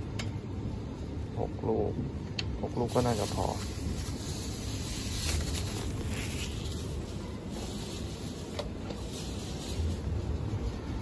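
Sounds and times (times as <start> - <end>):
supermarket background hum: 0.0 - 11.0.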